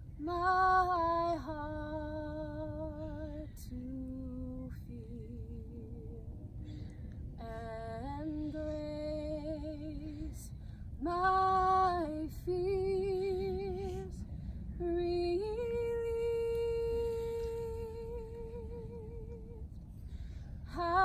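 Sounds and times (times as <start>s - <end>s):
woman singing unaccompanied: 0.2s - 6.4s, 7.4s - 14.2s, 14.8s - 19.8s, 20.7s - 21.0s.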